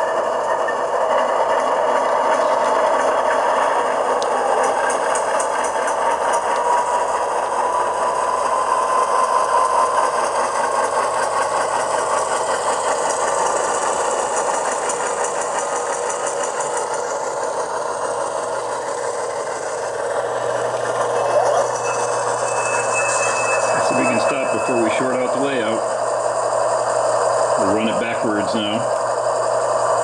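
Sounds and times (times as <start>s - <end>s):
model locomotive engine rumble: 0.0s - 30.0s
thin whine: 0.0s - 30.0s.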